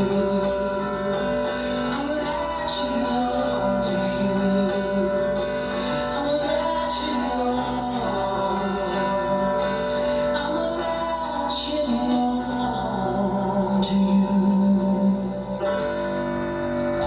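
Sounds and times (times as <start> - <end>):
man singing in a high register: 0.0 - 15.9
acoustic guitar: 0.0 - 17.0.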